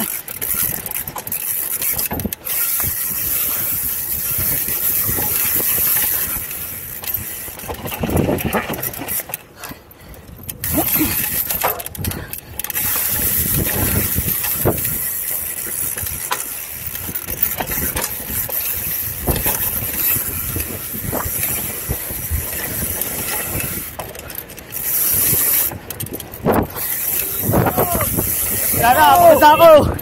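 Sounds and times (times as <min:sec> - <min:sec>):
wind rushing over microphone: 0:00.0 - 0:09.2, 0:10.3 - 0:24.1, 0:24.7 - 0:30.0
bike knocking and rattling: 0:00.0 - 0:30.0
bike tyre noise: 0:00.0 - 0:30.0.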